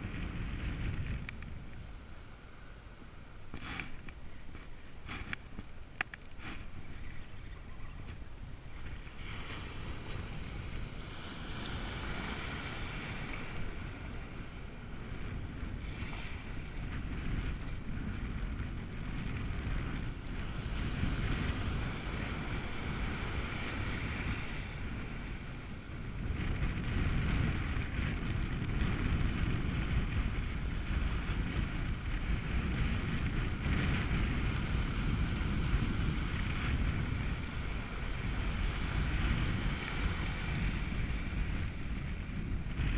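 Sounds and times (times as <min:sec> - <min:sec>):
wind buffeting microphone: 0:00.0 - 0:02.4, 0:03.0 - 0:42.9
small waves breaking on beach: 0:06.4 - 0:27.8, 0:28.9 - 0:42.9.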